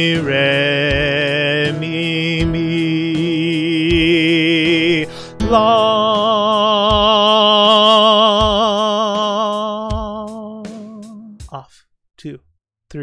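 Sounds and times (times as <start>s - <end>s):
backing track with steady beat: 0.0s - 5.9s, 6.7s - 11.6s
man singing with vibrato: 0.0s - 11.4s.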